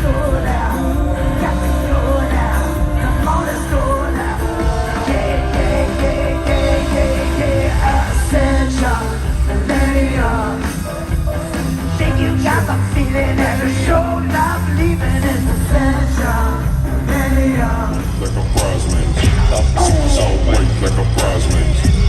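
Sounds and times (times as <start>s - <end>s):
loud live rock music: 0.0s - 22.0s
person singing and yelling: 0.0s - 22.0s.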